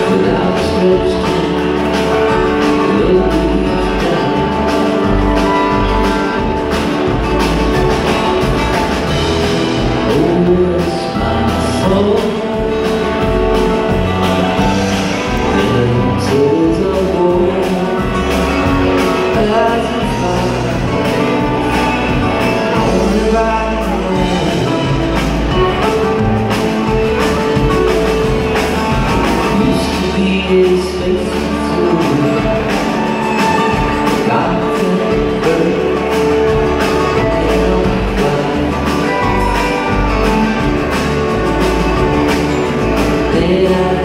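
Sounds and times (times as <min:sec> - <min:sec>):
lead vocal singing: 0:00.0 - 0:06.8, 0:09.1 - 0:26.0, 0:28.9 - 0:40.4, 0:43.0 - 0:44.0
live band playing: 0:00.0 - 0:44.0.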